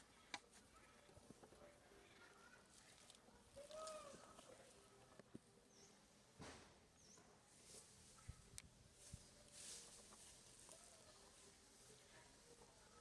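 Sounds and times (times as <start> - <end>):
small rustles and clicks: 0.2 - 5.5, 7.5 - 13.0.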